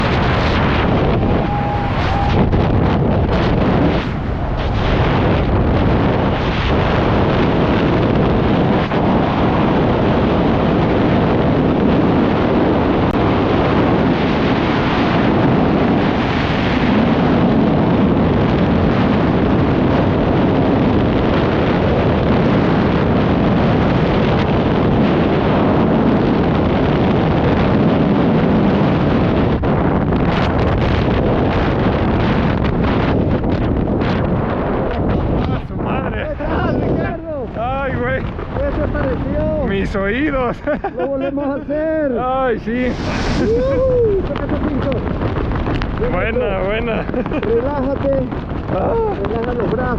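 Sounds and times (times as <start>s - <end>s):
freefall air rushing: 0.0s - 49.9s.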